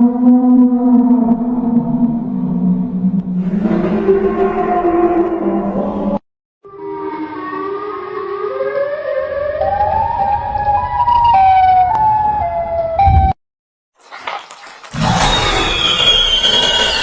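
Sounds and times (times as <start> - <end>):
siren-like wailing tone: 0.0 - 13.3, 15.0 - 17.0.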